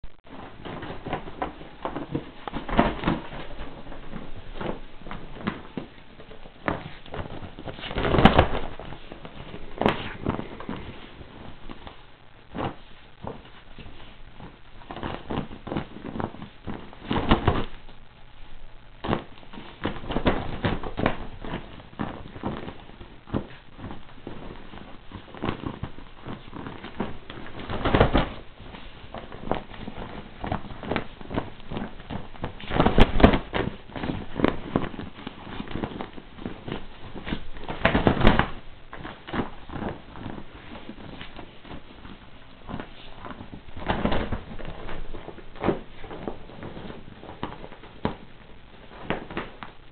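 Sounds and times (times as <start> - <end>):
rustling bedding: 0.3 - 49.9.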